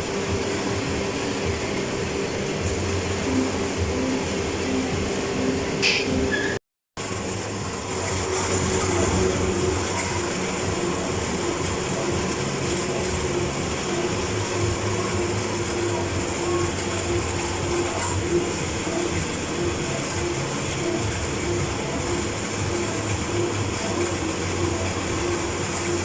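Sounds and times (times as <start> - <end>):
suction unit hissing: 0.0 - 26.0.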